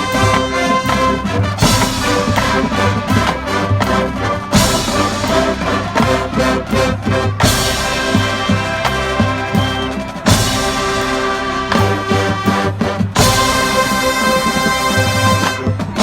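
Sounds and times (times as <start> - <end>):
marching band playing: 0.0 - 16.0
cymbal crash: 1.6 - 14.9.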